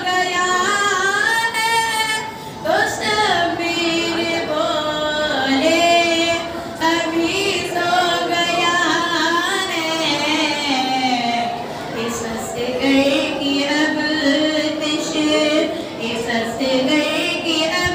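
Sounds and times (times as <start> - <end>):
woman singing unaccompanied: 0.0 - 17.9.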